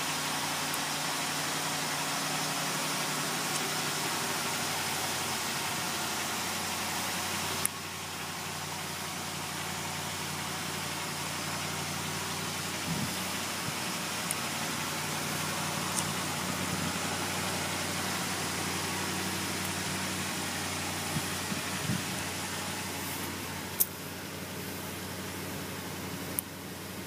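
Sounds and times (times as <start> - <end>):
car engine idling: 0.0 - 27.0
heavy hiss: 0.0 - 27.0.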